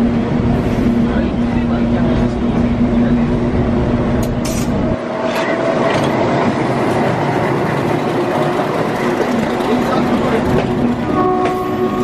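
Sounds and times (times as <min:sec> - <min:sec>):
train rumble with hum: 0:00.0 - 0:12.0.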